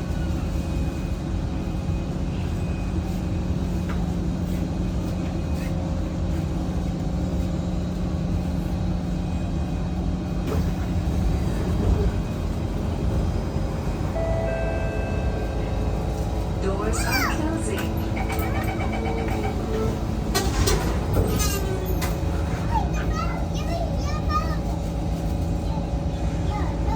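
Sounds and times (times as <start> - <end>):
train equipment hum and rumble: 0.0 - 26.9.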